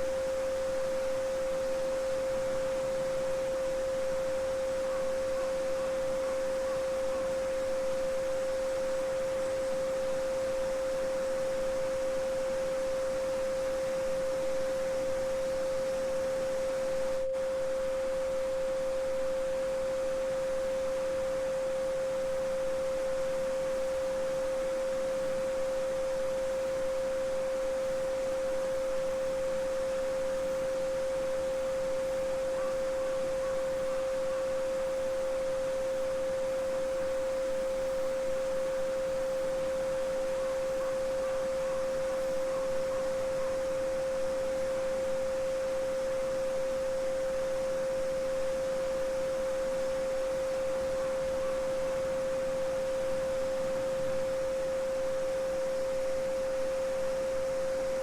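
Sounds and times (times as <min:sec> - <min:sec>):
steady sine tone: 0:00.0 - 0:58.0.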